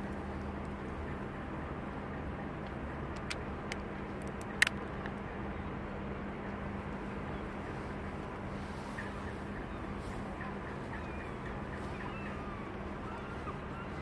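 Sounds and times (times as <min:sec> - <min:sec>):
low even hum: 0:00.0 - 0:14.0.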